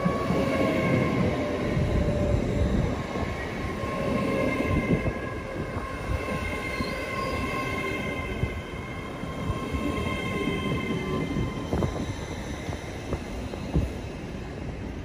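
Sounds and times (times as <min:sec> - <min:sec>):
train wheels rumbling on rail: 0:00.0 - 0:15.0
train whine: 0:00.0 - 0:15.0.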